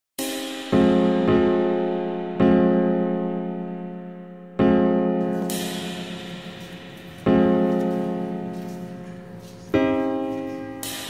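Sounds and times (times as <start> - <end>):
slow piano chords ringing: 0.2 - 11.0.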